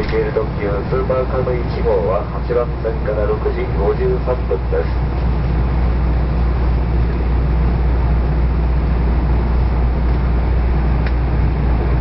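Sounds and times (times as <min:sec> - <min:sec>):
train coach rumbling from inside: 0:00.0 - 0:12.0.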